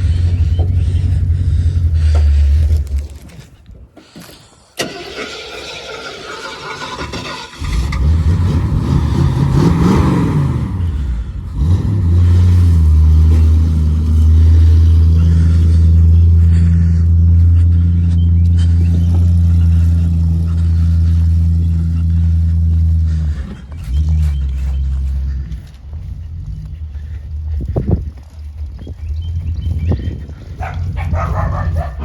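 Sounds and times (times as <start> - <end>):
car engine revving and idling: 0.0 - 3.3, 6.3 - 32.0.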